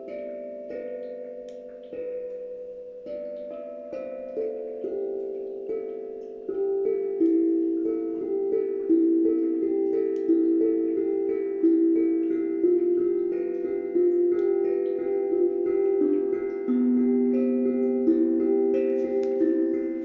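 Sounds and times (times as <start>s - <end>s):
calm instrumental melody: 0.0s - 20.0s.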